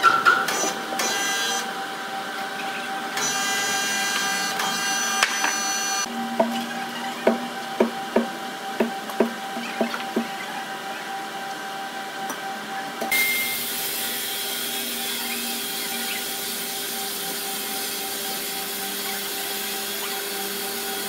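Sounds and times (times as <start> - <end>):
machine high whine: 0.0 - 21.0
sawmill machinery hum: 0.0 - 21.0.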